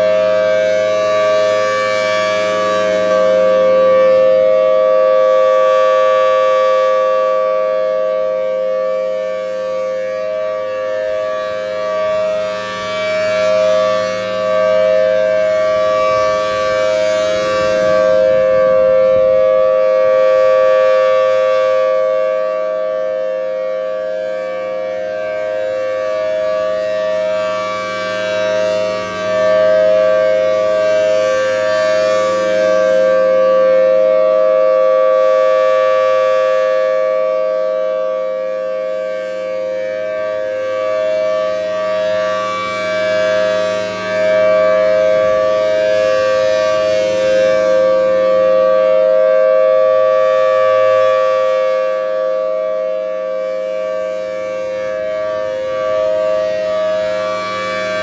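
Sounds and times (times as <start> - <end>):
siren steady tone: 0.0 - 58.0.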